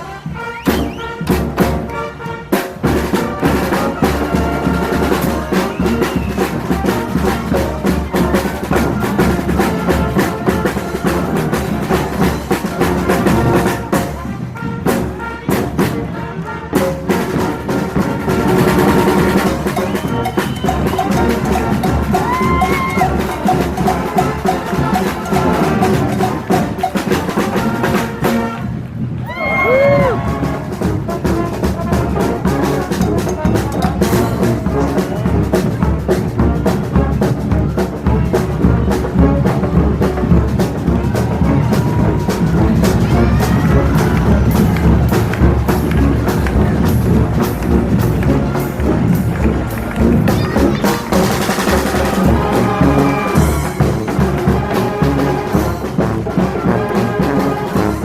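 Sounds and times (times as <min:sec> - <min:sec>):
brass band horns: 0:00.0 - 0:58.0
marching drums beat: 0:00.0 - 0:58.0.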